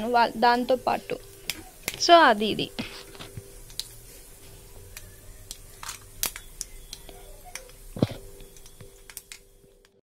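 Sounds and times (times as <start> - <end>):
nuts crackling and popping in oil: 0.0 - 10.0
oil sizzling: 0.0 - 10.0.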